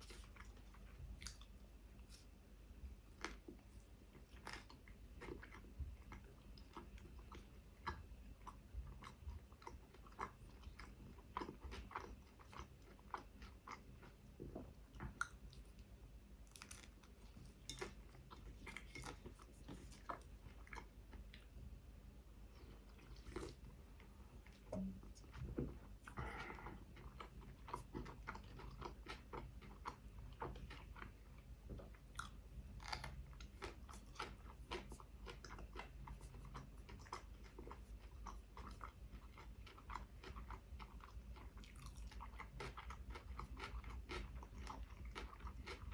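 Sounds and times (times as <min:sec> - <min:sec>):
chewing with wet mouth clicks: 0:00.0 - 0:01.6, 0:03.2 - 0:21.6, 0:22.5 - 0:45.9.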